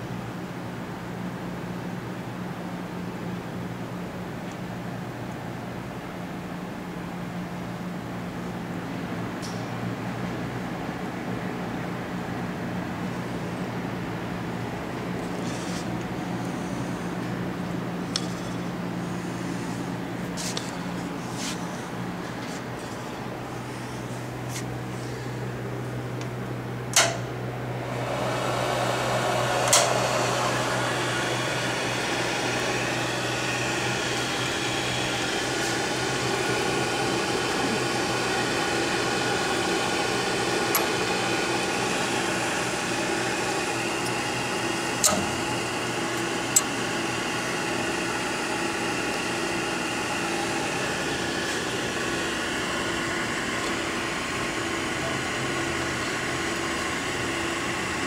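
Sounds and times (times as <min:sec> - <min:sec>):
machine fan whir and hum: 0:00.0 - 0:58.0.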